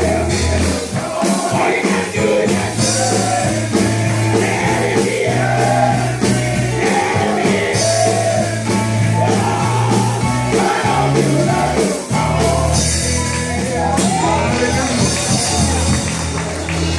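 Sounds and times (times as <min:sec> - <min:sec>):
men's choir singing gospel: 0:00.0 - 0:16.8
drums: 0:00.0 - 0:16.9
keyboard: 0:00.0 - 0:16.9
deep steady bass line: 0:02.2 - 0:16.9.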